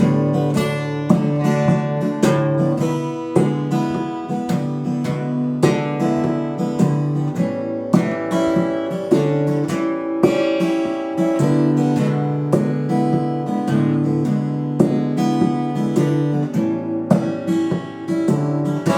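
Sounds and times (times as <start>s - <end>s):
acoustic guitar strummed chords: 0.0s - 18.9s.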